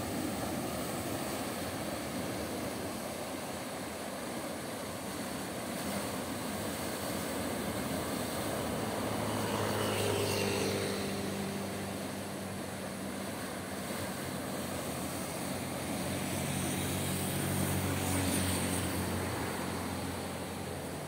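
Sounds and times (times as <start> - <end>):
distant engine drone: 0.0 - 21.0
waves breaking over rocks: 0.0 - 21.0.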